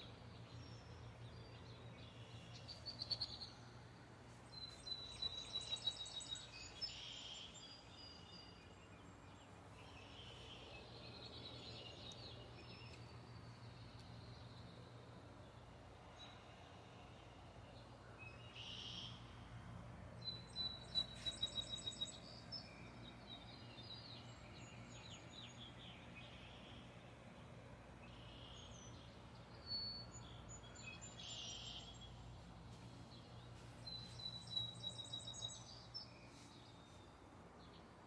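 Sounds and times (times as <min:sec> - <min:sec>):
birds chirping: 0:00.0 - 0:38.0
low steady hum: 0:00.0 - 0:38.0.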